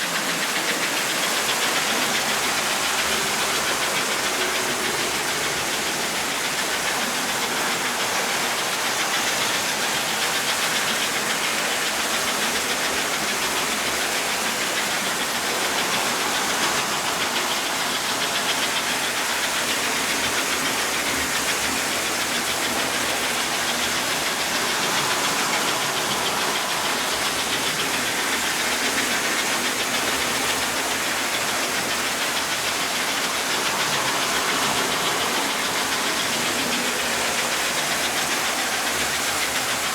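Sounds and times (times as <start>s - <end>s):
toy train motor whirring: 0.1s - 39.9s.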